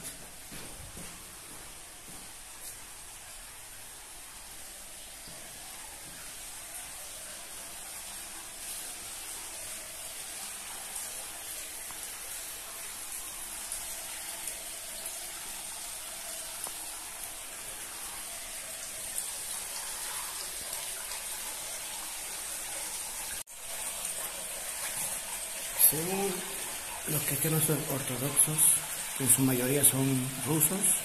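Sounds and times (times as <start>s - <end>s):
water running into a basin: 2.1s - 31.0s.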